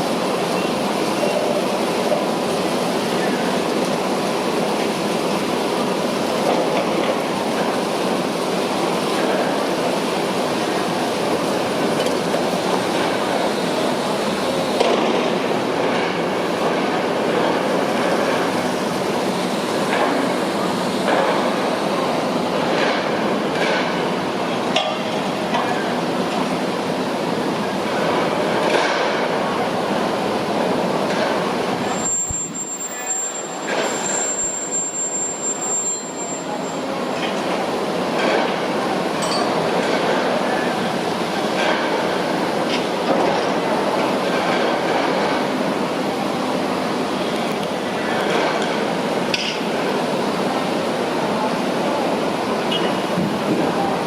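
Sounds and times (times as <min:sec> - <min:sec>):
heavy construction machinery running: 0:00.0 - 0:54.0.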